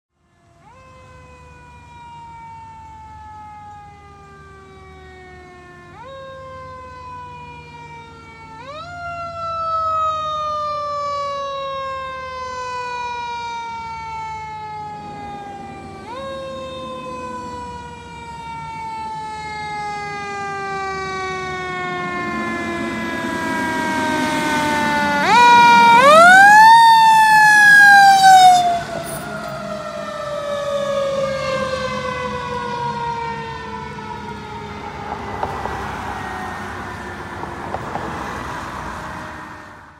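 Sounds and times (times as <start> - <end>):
mechanical fire siren wailing: 0.1 - 39.9.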